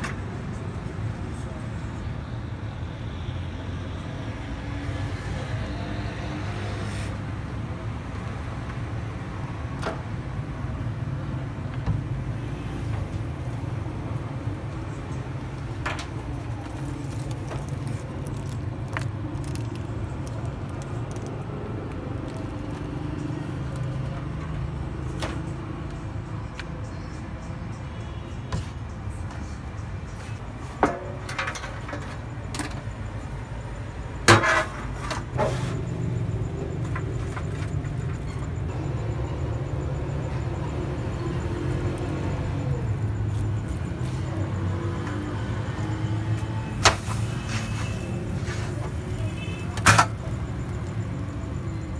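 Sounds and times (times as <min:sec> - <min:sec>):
street background rumble: 0:00.0 - 0:51.9.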